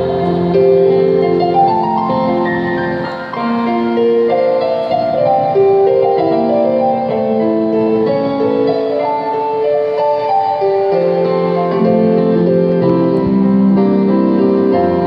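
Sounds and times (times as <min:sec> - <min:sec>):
electronic keyboard hymn melody: 0:00.0 - 0:15.0.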